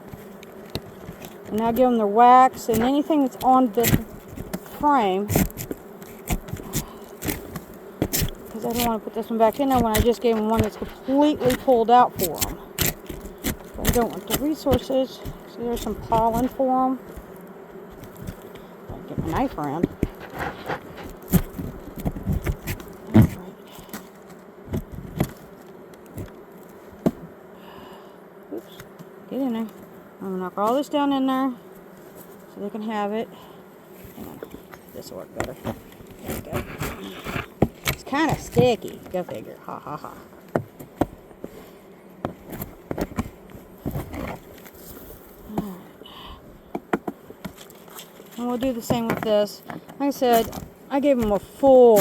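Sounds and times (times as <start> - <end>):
honeybees buzzing: 0.0 - 52.0
knife scraping wax off hive frame: 0.0 - 52.0.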